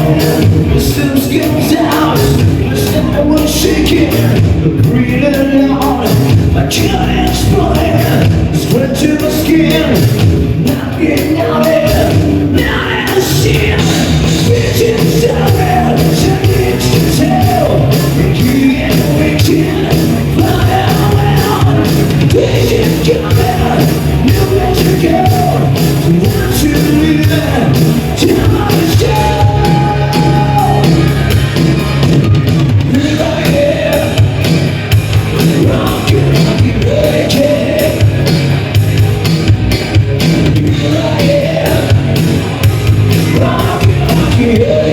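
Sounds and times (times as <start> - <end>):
live rock band playing: 0.0 - 44.9
low bass: 0.0 - 44.9.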